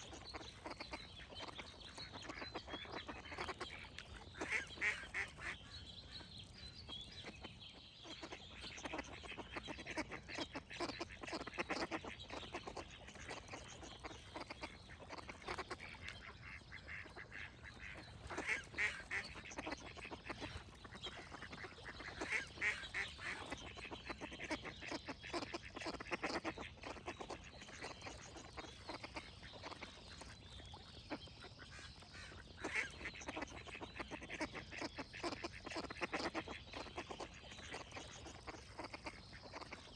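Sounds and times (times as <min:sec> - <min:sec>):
birds singing: 0:00.0 - 0:39.9
ducks quacking: 0:00.1 - 0:06.2, 0:08.1 - 0:39.9.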